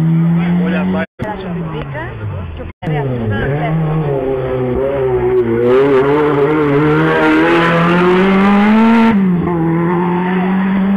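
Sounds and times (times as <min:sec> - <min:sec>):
rally car engine accelerating: 0:00.0 - 0:10.9.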